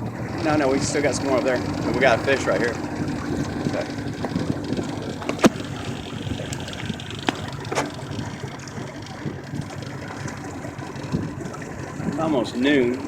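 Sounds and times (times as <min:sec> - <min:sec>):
water splashing against a boat: 0:00.0 - 0:13.0.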